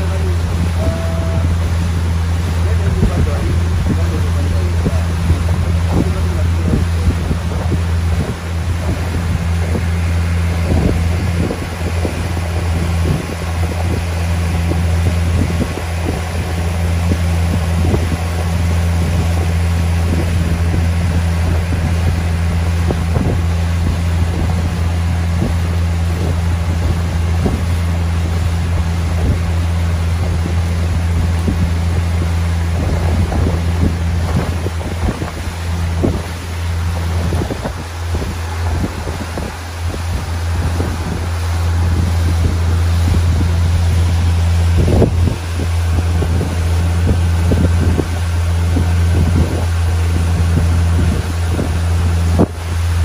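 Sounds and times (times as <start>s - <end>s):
motorboat engine droning: 0.0s - 53.0s
wind buffeting microphone: 0.0s - 53.0s.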